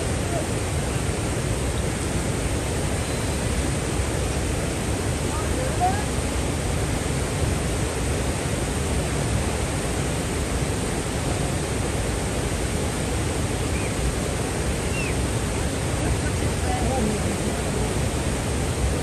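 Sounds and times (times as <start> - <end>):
mountain river rushing: 0.0 - 19.0.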